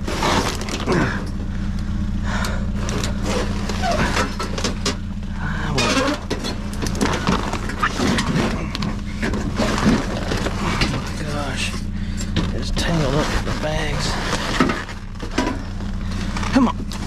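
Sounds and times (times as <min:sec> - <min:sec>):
vehicle engine idling: 0:00.0 - 0:17.0
scrap metal knocking and scraping: 0:02.7 - 0:17.0.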